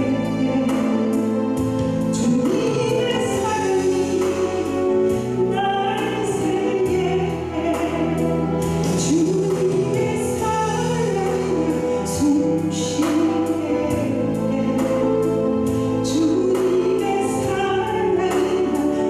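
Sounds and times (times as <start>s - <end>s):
instrumental accompaniment: 0.0s - 19.0s
woman singing into microphone: 0.0s - 19.0s.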